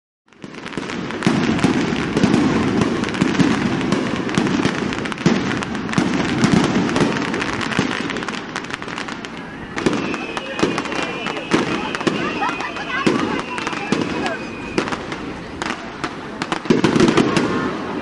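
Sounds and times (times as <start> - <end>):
fireworks bangs and crackling: 0.3 - 18.0.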